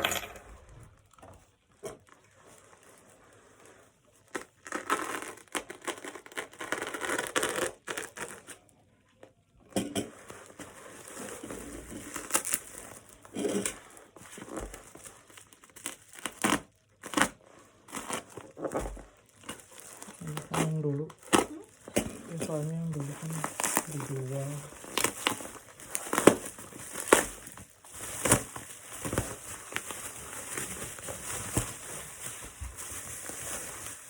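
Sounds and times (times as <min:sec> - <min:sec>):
packaging crinkling and tearing: 0:02.0 - 0:08.8, 0:10.2 - 0:34.0.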